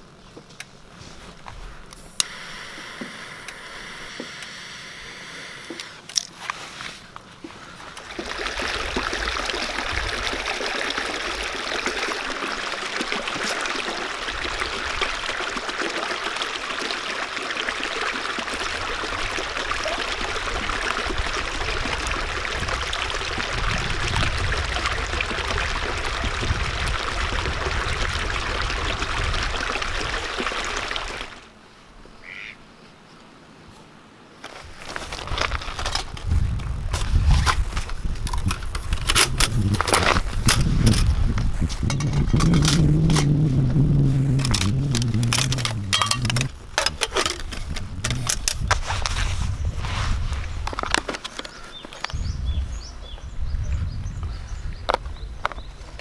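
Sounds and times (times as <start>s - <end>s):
running water rushing: 0.8s - 31.6s, 34.5s - 52.3s.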